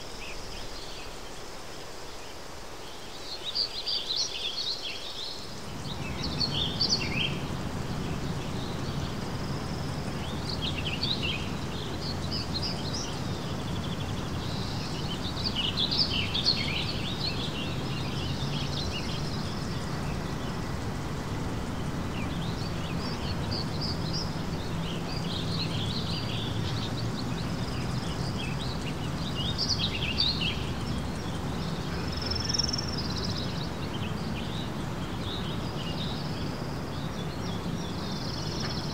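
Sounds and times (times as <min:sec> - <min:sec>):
birds singing and chirping: 0:03.1 - 0:38.9
low background rumble: 0:05.5 - 0:38.9.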